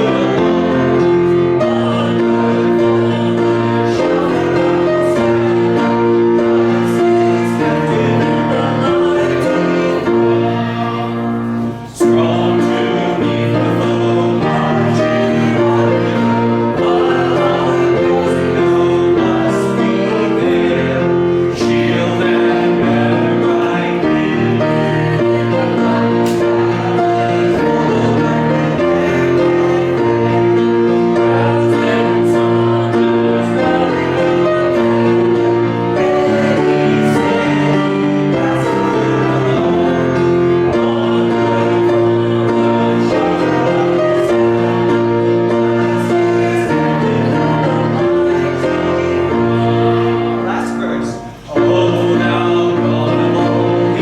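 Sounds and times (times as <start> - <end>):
congregation singing a hymn: 0.0 - 54.0
instrumental accompaniment: 0.0 - 54.0.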